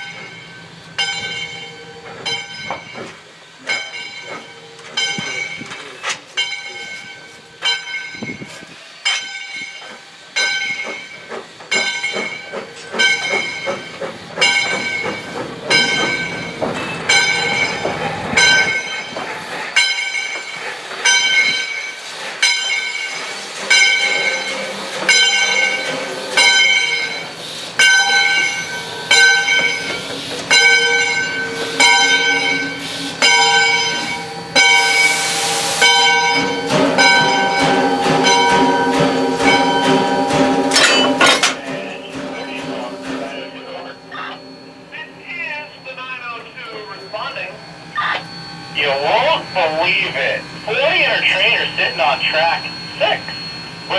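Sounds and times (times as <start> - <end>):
locomotive bell ringing: 0.0 - 19.2, 19.8 - 53.9
running train: 0.0 - 53.9.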